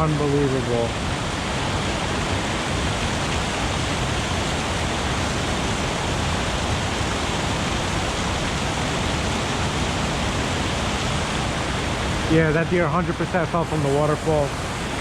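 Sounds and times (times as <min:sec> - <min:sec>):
river water and waterfall rushing: 0:00.0 - 0:15.0.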